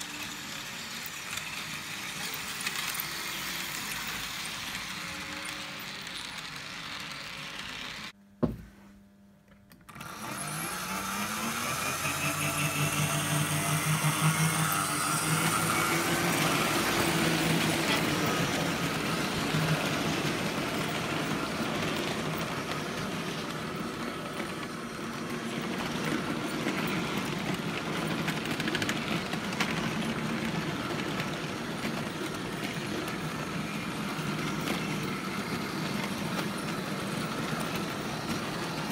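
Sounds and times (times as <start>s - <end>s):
model train wheels clattering: 0.0s - 8.1s, 11.1s - 38.9s.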